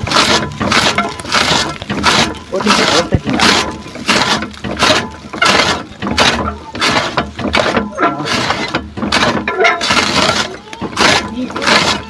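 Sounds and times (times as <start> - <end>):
grass being cut by hand: 0.0 - 12.0.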